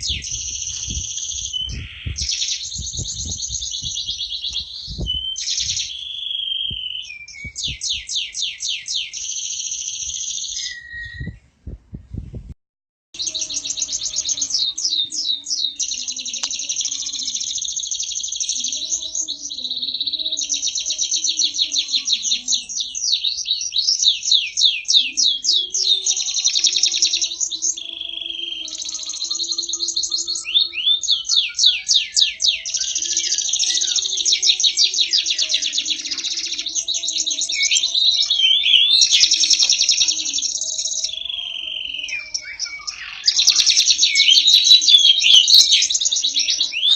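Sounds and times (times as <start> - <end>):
canary singing trills: 0.0 - 11.5, 13.2 - 46.9.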